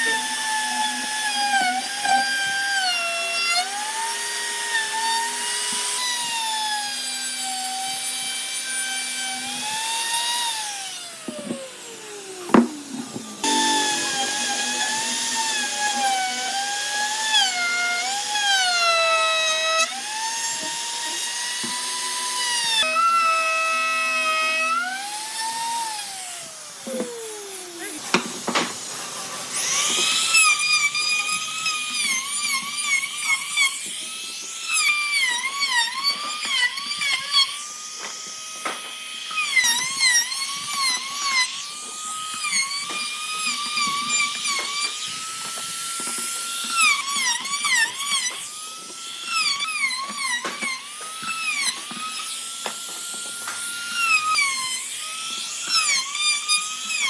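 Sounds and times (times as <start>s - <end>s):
power tool whining on wood: 0.0s - 57.0s.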